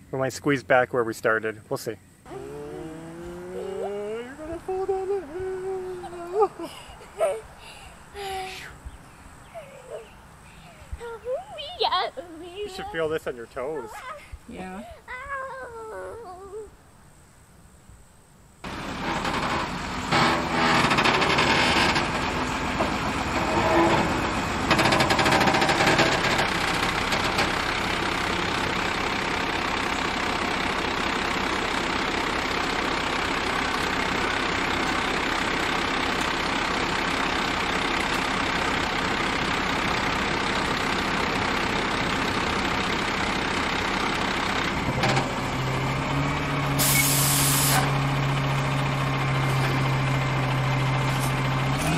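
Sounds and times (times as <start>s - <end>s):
diesel truck engine running: 2.2s - 14.1s, 18.6s - 51.9s.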